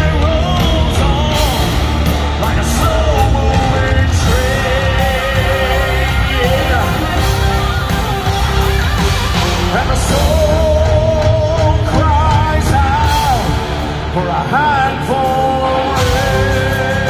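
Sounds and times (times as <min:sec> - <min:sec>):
drums: 0:00.0 - 0:17.0
electric guitar: 0:00.0 - 0:17.0
man singing: 0:00.0 - 0:17.0.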